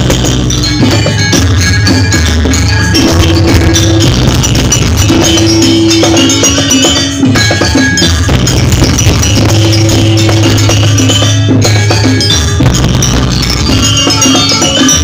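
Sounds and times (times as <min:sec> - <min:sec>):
gamelan ensemble playing: 0:00.0 - 0:15.0.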